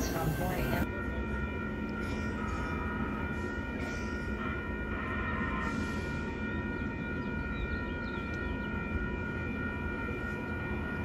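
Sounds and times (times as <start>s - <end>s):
crossing warning bells ringing: 0.0s - 11.0s.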